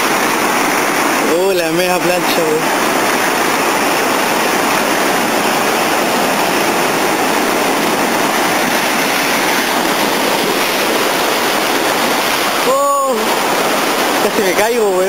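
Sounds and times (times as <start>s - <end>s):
seawater rushing over rocks: 0.0s - 15.0s.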